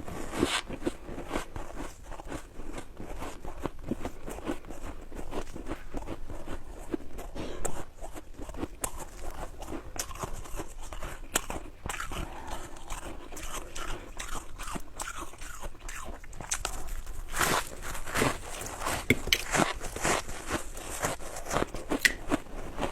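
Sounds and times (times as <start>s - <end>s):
ice being chewed: 0.0s - 22.9s.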